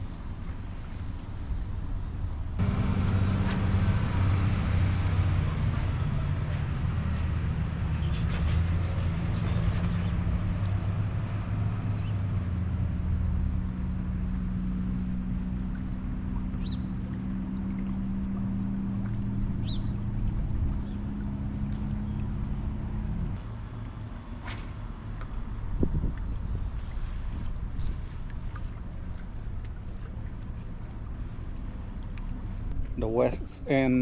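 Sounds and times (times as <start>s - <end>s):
engine droning: 0.0s - 34.0s.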